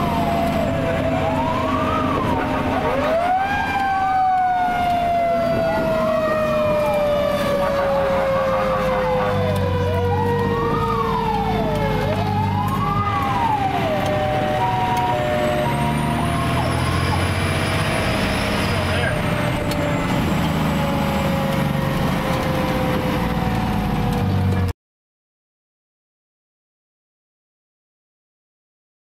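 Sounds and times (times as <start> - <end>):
electronic siren wailing: 0.0 - 24.2.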